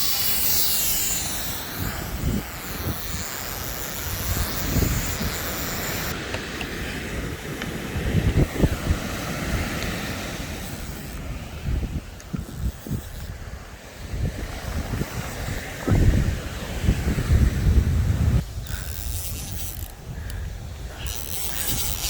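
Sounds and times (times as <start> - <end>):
wind buffeting microphone: 0.0 - 22.0
wind roaring: 0.0 - 22.0.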